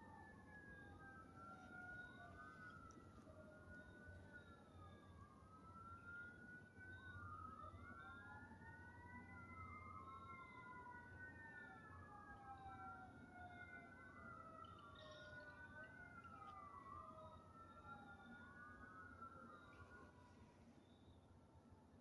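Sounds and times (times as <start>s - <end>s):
faint wailing sirens: 0.0s - 22.0s.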